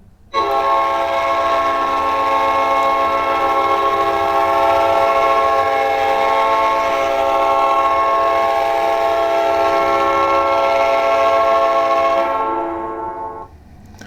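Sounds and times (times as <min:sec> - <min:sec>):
goal horn blowing: 0:00.4 - 0:13.5.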